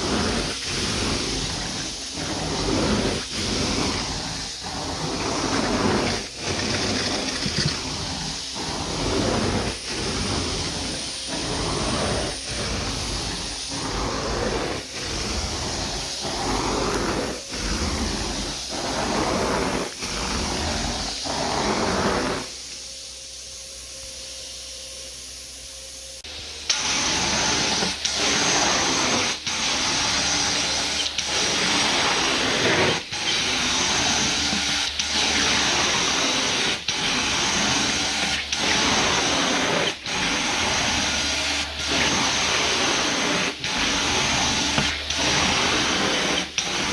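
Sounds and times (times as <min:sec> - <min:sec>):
vacuum wand sucking water: 0:00.0 - 0:22.6, 0:26.6 - 0:46.9.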